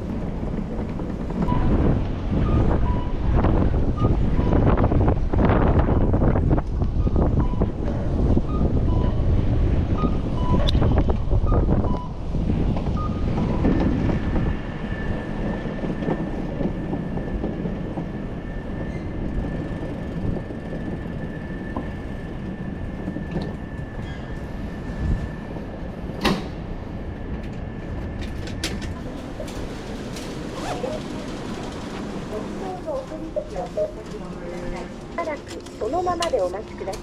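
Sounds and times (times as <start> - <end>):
train carriage rumble: 0.0 - 37.0.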